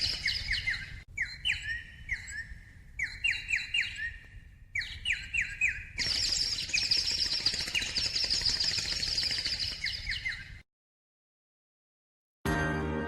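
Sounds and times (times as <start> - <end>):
bird chirping: 0.0 - 10.6.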